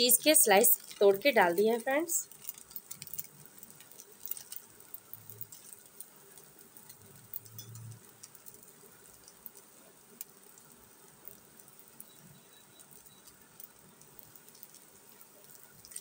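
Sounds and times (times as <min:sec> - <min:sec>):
pasta pan crackling and ticking: 0:00.0 - 0:16.0.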